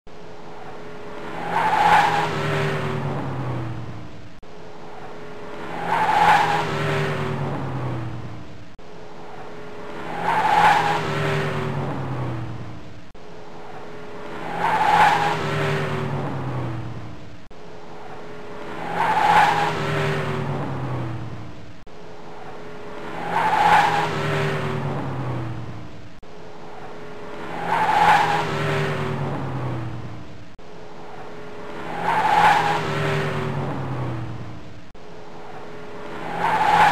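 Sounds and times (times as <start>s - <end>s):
car engine hum with rushing: 0.1s - 36.9s.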